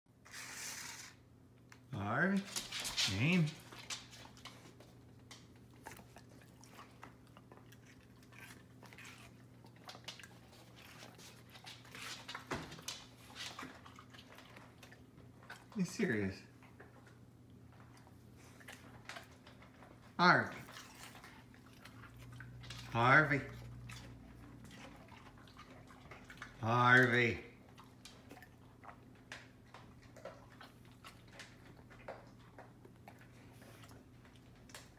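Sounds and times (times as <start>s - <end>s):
low steady hum: 1.3s - 34.9s
dog chewing and crunching: 2.2s - 34.9s.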